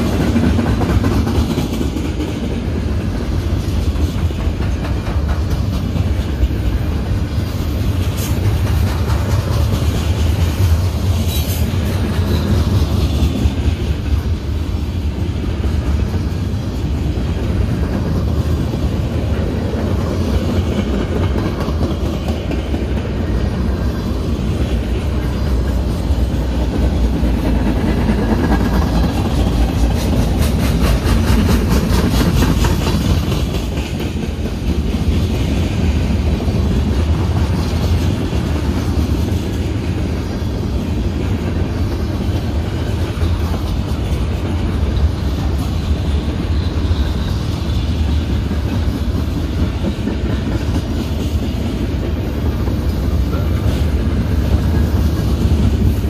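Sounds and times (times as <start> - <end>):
freight train rumbling: 0.0 - 56.0
wheels clicking over rail joints: 0.0 - 56.0.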